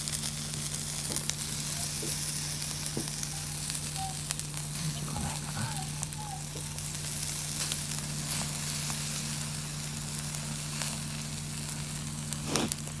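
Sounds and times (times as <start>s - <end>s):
meat skewers sizzling on grill: 0.0s - 13.0s
pops and crackles: 0.0s - 13.0s.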